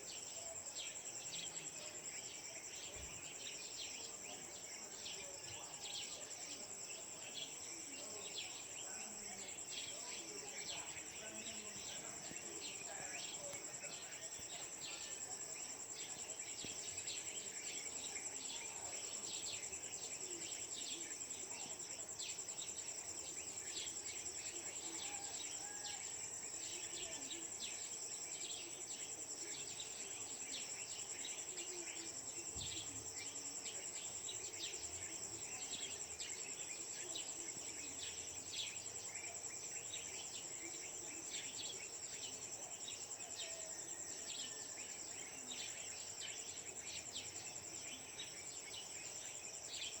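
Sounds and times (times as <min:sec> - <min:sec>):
high-pitched insect trill: 0:00.0 - 0:50.0.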